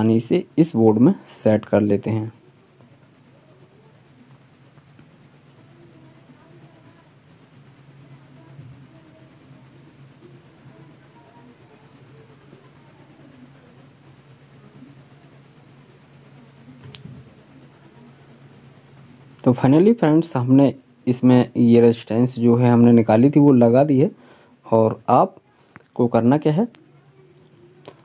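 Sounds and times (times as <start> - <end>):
insect chirping: 0.0 - 28.0.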